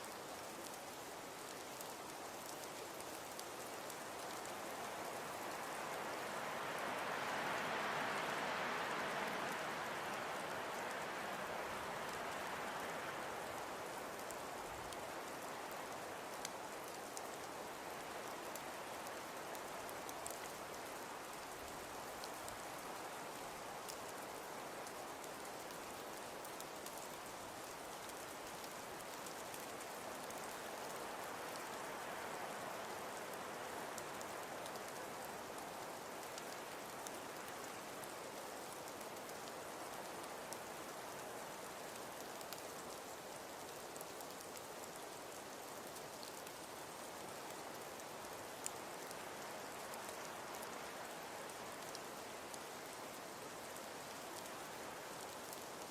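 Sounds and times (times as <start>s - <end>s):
fire crackles and pop: 0.1s - 6.8s, 7.5s - 55.9s.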